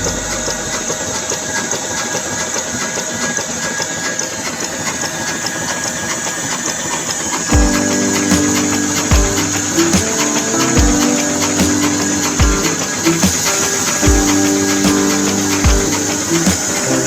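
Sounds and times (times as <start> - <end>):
flour mill machinery clattering: 0.0 - 17.0.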